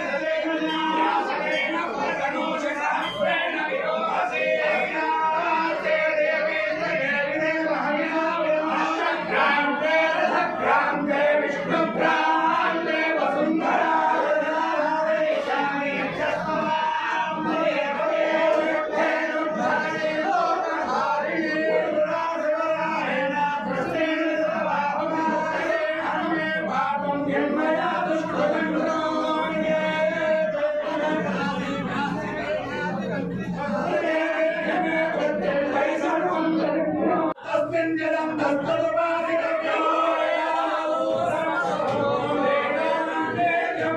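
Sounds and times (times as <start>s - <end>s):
men chanting in unison: 0.0s - 43.9s.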